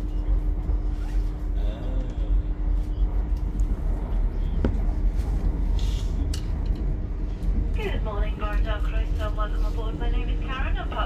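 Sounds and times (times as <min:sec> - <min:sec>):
steady hum: 0:00.0 - 0:11.0
train interior rumble: 0:00.0 - 0:11.0.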